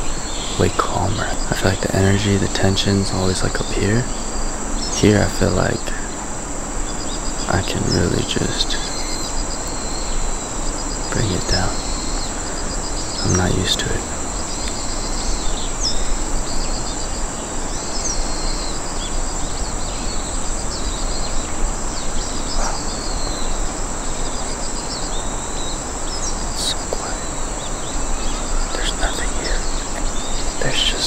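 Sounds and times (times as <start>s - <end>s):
birds chirping: 0.0s - 31.0s
insects shrilling: 0.0s - 31.0s.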